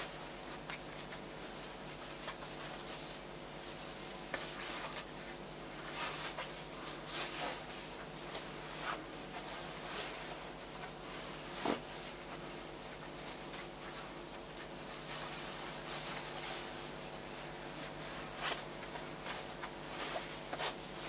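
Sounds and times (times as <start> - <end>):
cloth rustling and swishing: 0.0 - 21.0.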